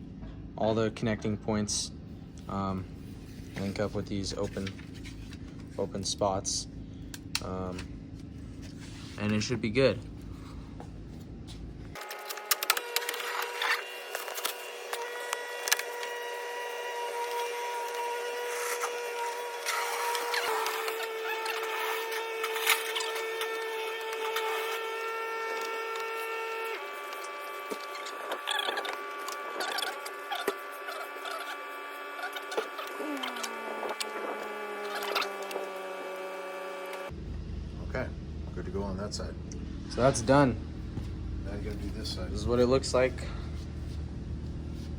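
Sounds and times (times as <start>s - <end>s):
steady high hum: 0.0s - 44.9s.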